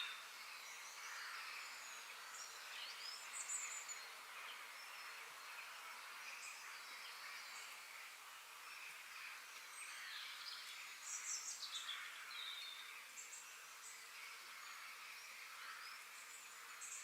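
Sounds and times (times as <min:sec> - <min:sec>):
insect hiss: 0:00.0 - 0:17.0.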